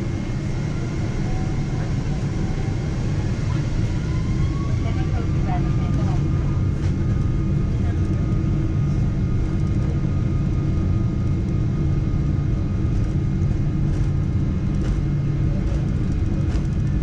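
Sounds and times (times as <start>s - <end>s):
airliner engines and airflow rumble: 0.0s - 17.0s.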